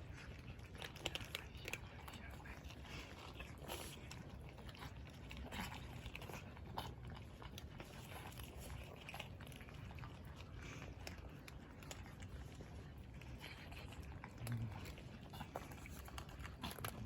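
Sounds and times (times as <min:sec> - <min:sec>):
cats chewing food: 0:00.0 - 0:17.0.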